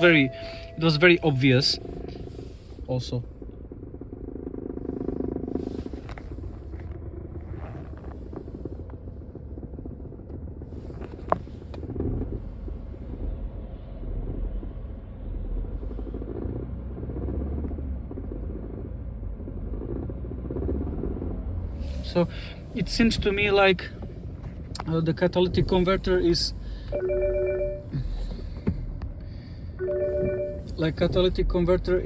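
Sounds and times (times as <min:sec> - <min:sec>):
car exhaust rumble: 0:00.0 - 0:32.0.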